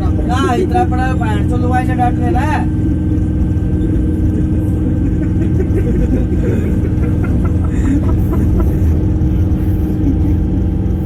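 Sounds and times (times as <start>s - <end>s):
train rumbling from inside coach: 0.0s - 11.0s.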